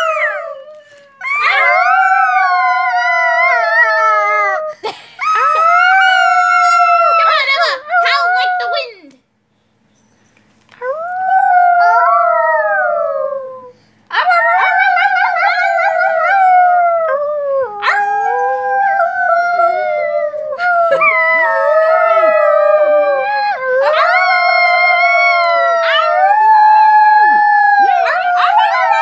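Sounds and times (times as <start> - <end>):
dog howling: 0.0 - 4.7, 5.3 - 8.9, 10.8 - 29.0.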